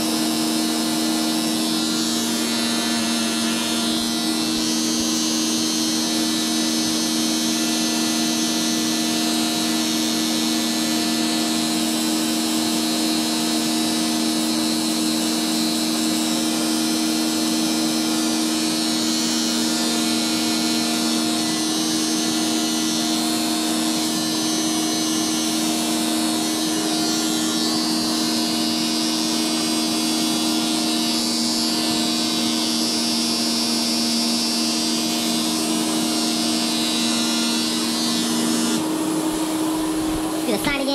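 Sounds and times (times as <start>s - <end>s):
vacuum cleaner motor hum: 0.0s - 40.9s.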